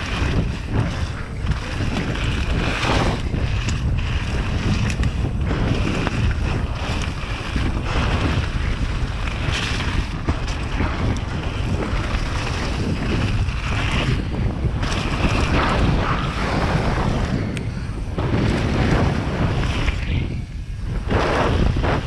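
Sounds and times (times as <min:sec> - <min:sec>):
bike tyres rolling over gravel: 0:00.0 - 0:22.0
wind rushing over microphone: 0:00.0 - 0:22.0.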